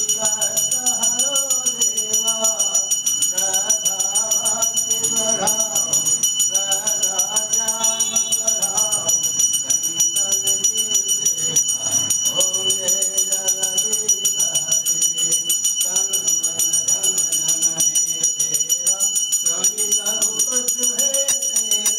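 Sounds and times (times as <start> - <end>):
devotional singing with music: 0.0 - 21.9
temple bell ringing rapidly: 0.0 - 21.9.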